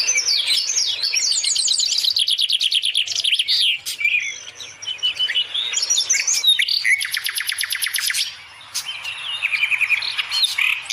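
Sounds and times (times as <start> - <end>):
budgerigars chirping and warbling: 0.0 - 10.9.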